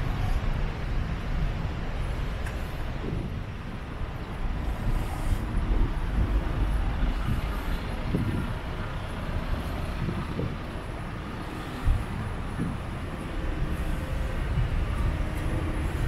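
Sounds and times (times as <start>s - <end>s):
cars and scooters passing: 0.0s - 16.0s.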